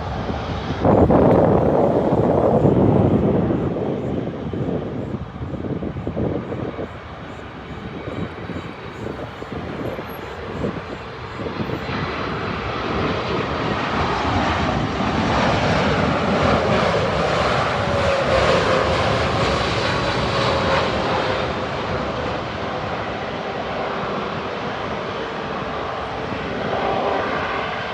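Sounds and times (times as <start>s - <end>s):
jet engines roaring: 0.0s - 27.9s.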